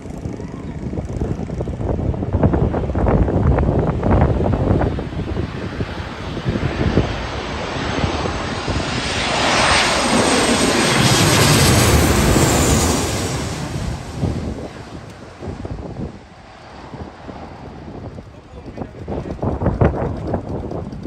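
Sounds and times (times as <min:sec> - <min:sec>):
airliner engine roar: 0:00.0 - 0:21.0.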